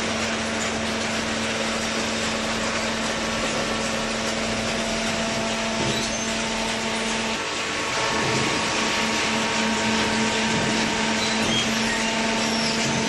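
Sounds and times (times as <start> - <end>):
baler machine humming: 0.0 - 13.0.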